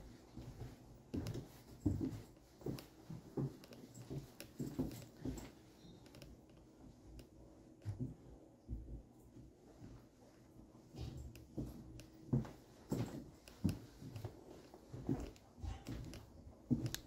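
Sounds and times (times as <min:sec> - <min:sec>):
soft footsteps: 0:00.0 - 0:17.0.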